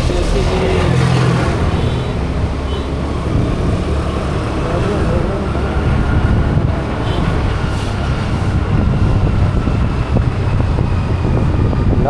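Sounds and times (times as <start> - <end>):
vehicle engine rumbling: 0.0 - 12.0
wind noise on microphone: 0.0 - 12.0.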